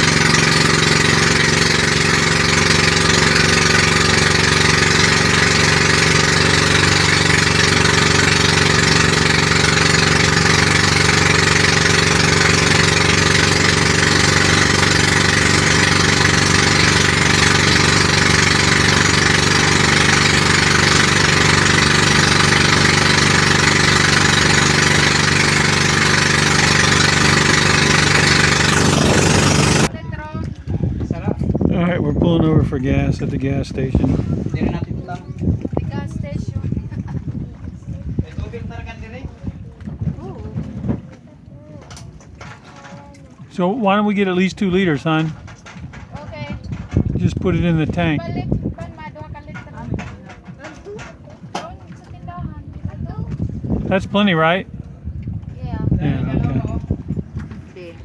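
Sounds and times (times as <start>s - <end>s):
loud boat engine running: 0.0s - 31.2s, 42.1s - 58.0s.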